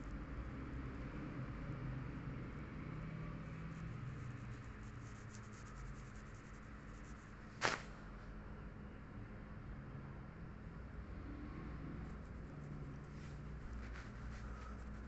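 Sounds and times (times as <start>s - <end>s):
low background hum and hiss: 0.0s - 15.0s.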